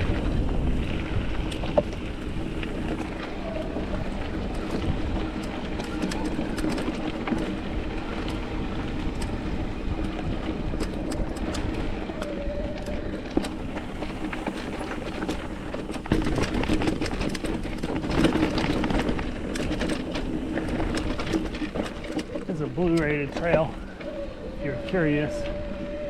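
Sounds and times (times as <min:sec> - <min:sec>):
bike clicks and rattles: 0:00.0 - 0:26.0
bike tyres crunching on rock: 0:00.0 - 0:26.0
wind on microphone: 0:00.0 - 0:26.0.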